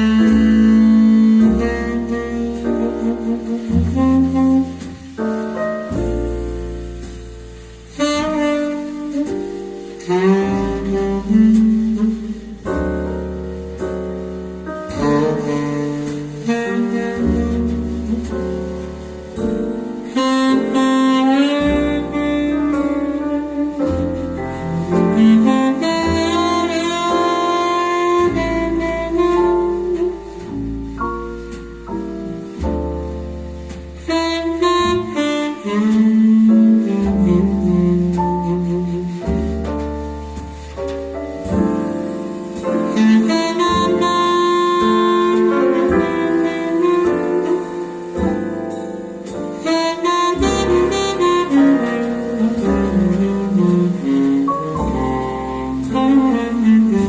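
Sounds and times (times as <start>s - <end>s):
saxophone: 0.0s - 13.4s, 14.8s - 40.8s, 41.4s - 57.0s
deep bass line: 0.0s - 57.0s
piano: 0.0s - 57.0s.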